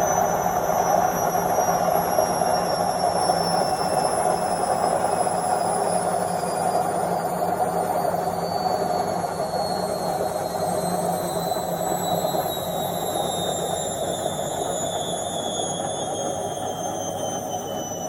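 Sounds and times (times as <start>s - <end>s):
high whine falling in pitch: 0.0s - 18.0s
washing machine spin whirring: 0.0s - 18.0s.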